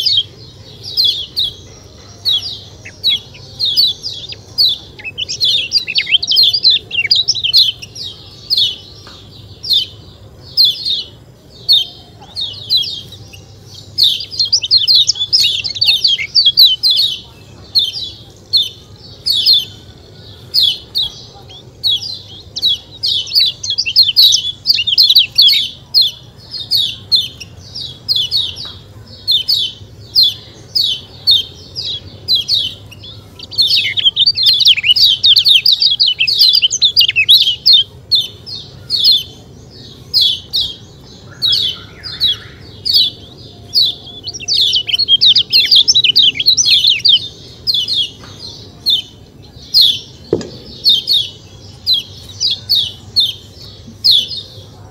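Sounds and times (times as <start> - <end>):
small bird chirping: 0.0 - 54.9.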